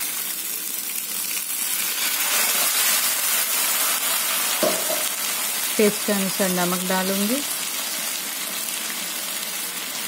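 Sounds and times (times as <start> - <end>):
ghee sizzling in a frying pan: 0.0 - 10.0.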